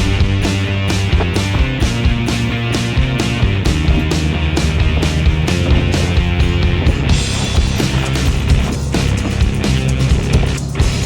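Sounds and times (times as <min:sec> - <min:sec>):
up-tempo rock music: 0:00.0 - 0:11.0.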